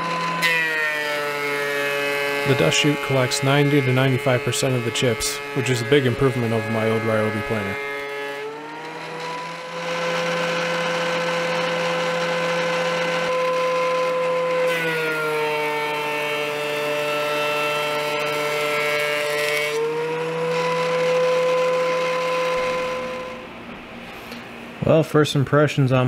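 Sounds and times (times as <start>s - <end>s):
planer cutting wood: 0.0s - 24.5s
thickness planer running: 0.0s - 24.8s.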